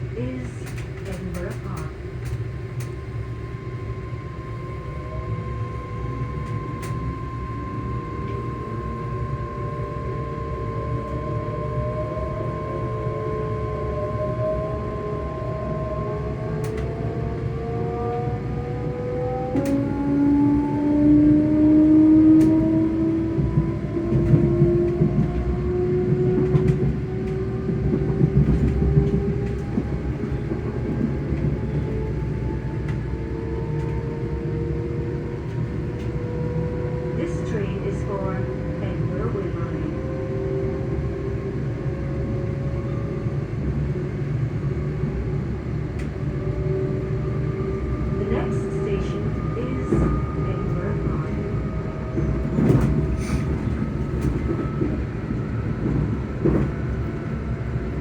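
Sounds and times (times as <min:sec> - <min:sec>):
train running rumble: 0:00.0 - 0:58.0
train traction motors whining: 0:00.0 - 0:58.0.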